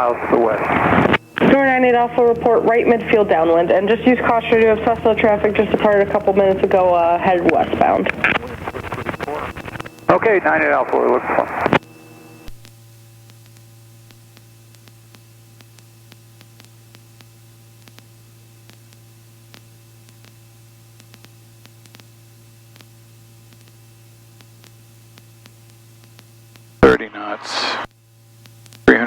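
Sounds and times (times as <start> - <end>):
electrical hum and hiss: 0.0 - 29.0
static clicks: 0.0 - 29.0.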